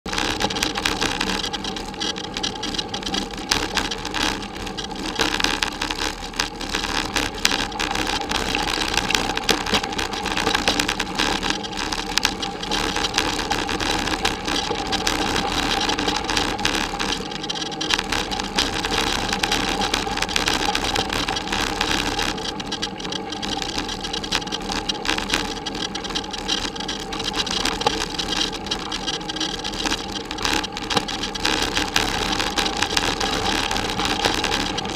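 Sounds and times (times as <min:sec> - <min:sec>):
bicycle tyres rumbling on dirt: 0:00.1 - 0:34.9
bike rattles and jolts: 0:00.1 - 0:34.9.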